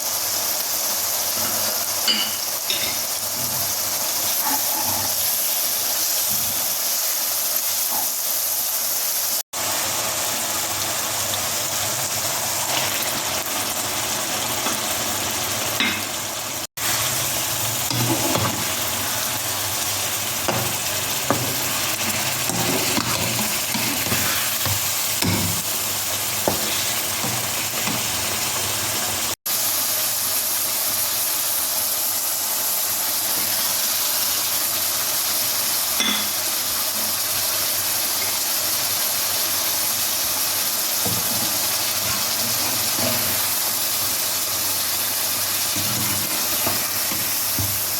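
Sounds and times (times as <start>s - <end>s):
chicken sizzling in a pan: 0.0s - 47.9s.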